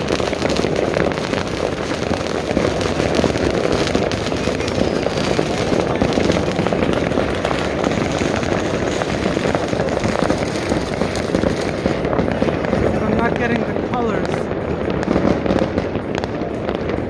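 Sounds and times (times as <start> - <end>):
fireworks and firecrackers crackling: 0.0 - 17.0.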